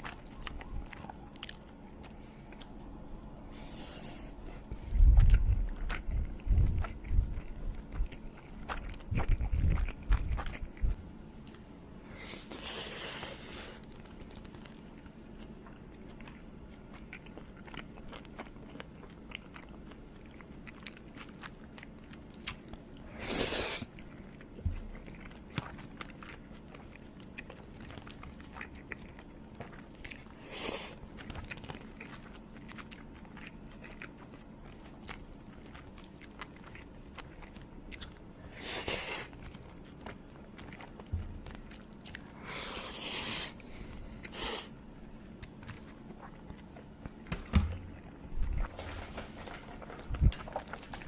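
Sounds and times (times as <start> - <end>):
chewing and biting food: 0.0 - 51.0.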